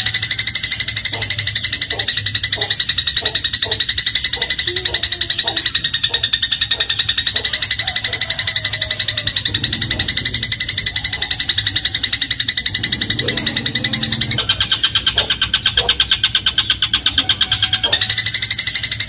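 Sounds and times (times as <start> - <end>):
sparrow chattering trill: 0.0 - 19.0.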